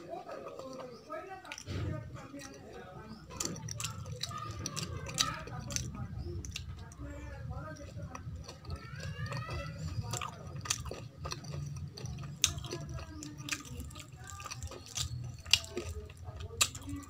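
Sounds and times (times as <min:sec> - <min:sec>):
close chewing of wet food: 0:00.0 - 0:17.0.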